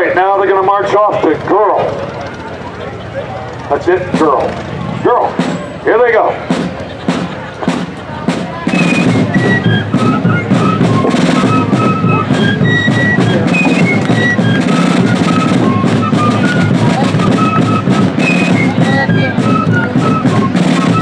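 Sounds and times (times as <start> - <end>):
shrill fife melody: 3.7 - 21.0
rapid snare drumming: 3.8 - 21.0
bass drum beats: 4.0 - 21.0.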